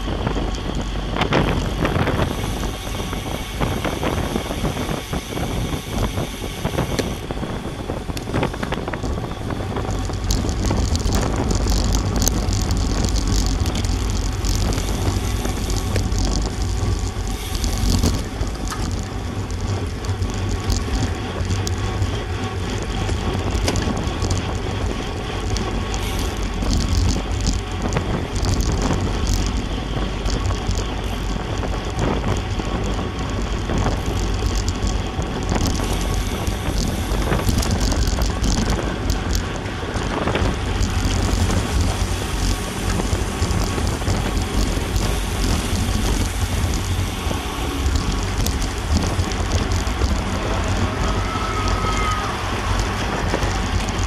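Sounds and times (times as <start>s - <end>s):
tyre and road noise: 0.0s - 54.0s
wind buffeting microphone: 0.0s - 54.0s.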